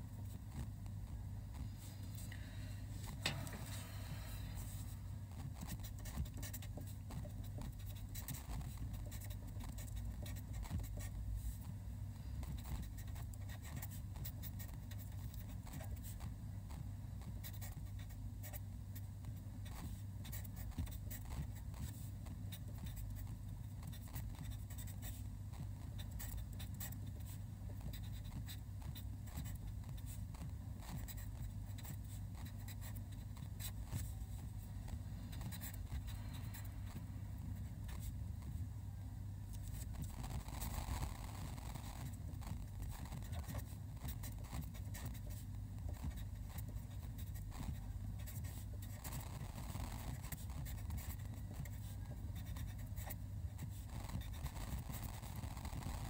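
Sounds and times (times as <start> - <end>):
steady low hum: 0.0 - 56.0
marker pen scratching paper: 3.1 - 11.7, 12.4 - 18.6, 19.6 - 38.2, 39.6 - 56.0.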